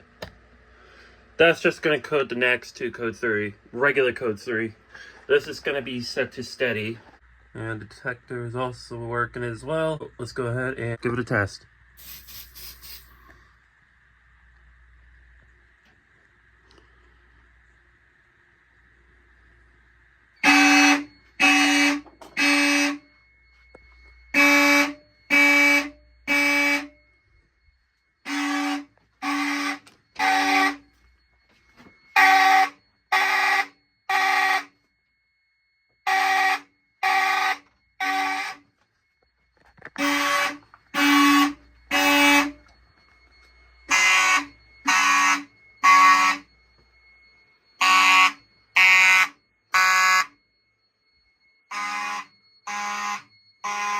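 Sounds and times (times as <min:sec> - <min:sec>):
fire alarm tones: 0:00.8 - 0:10.5, 0:12.0 - 0:13.5, 0:19.4 - 0:53.9
faint steady high tone: 0:00.8 - 0:53.9.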